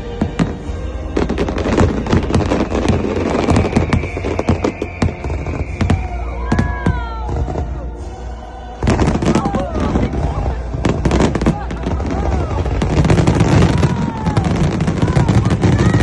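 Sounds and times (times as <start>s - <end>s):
fireworks bangs and crackles: 0.0s - 16.0s
whistling fireworks: 0.0s - 16.0s.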